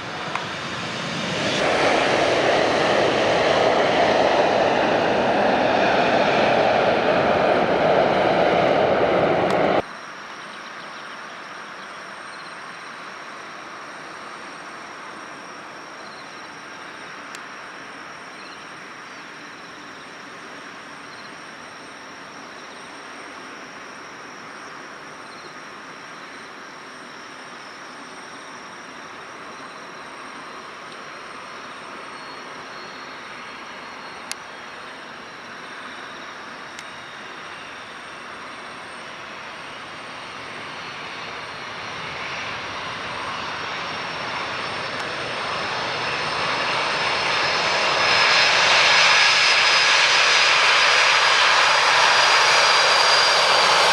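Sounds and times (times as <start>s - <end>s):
distant aircraft engines hum: 0.0s - 53.9s
loud aircraft engine: 0.0s - 53.9s.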